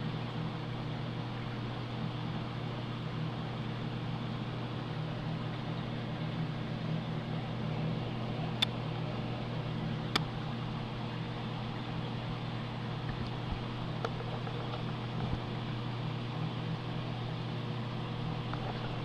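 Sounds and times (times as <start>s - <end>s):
aquarium pump hum: 0.0s - 19.0s.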